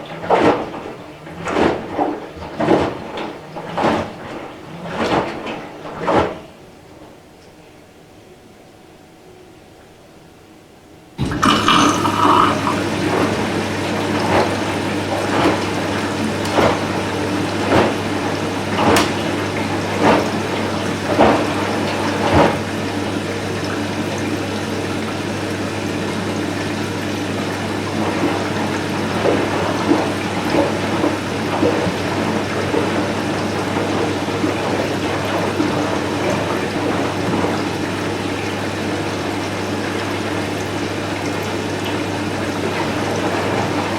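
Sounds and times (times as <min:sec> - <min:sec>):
water rushing into washing machine: 0:00.0 - 0:07.2, 0:11.2 - 0:43.9.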